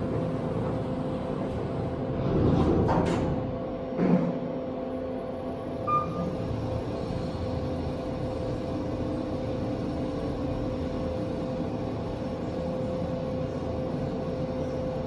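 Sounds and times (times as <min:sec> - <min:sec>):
elevator low rumble: 0:00.0 - 0:15.0
elevator whine-like hum: 0:00.0 - 0:15.0.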